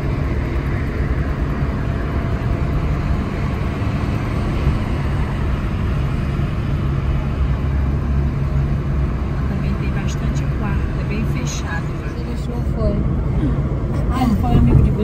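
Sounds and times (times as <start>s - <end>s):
car cabin road noise: 0.0s - 15.0s.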